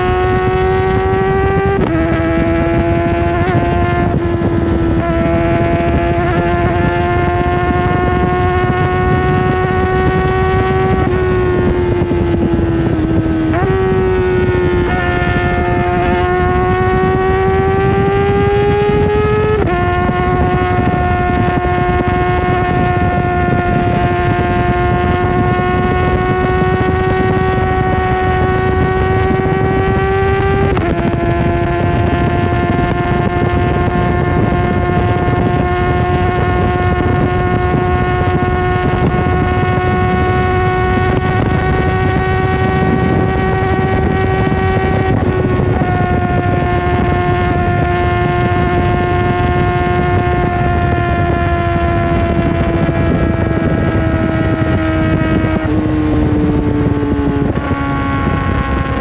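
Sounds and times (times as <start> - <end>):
motorcycle engine revving high: 0.0 - 59.0
wind rushing over microphone: 0.0 - 59.0.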